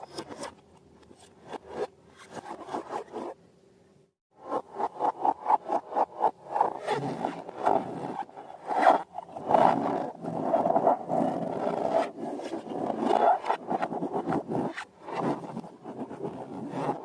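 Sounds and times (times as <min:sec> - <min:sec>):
rubbery rubbing and scraping: 0:00.0 - 0:03.4, 0:04.4 - 0:17.0.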